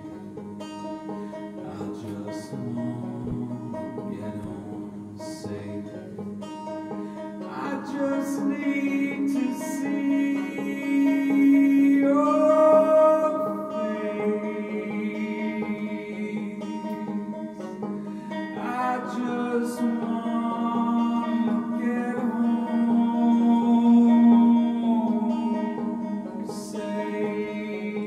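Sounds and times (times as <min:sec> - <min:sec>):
man singing folk song: 0:00.0 - 0:28.0
plucked banjo: 0:00.0 - 0:28.0.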